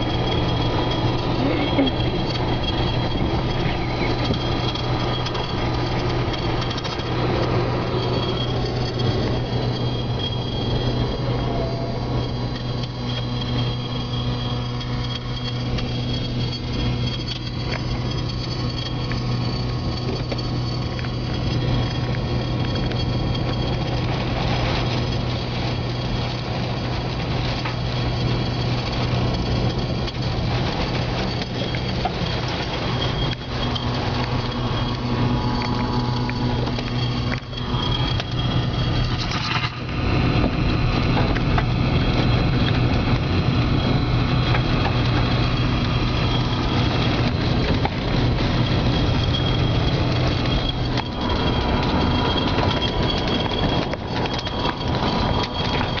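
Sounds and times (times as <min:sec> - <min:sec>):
low engine hum: 0:00.0 - 0:56.0
rain beating on a vehicle: 0:00.0 - 0:56.0
tornado winds: 0:00.0 - 0:56.0.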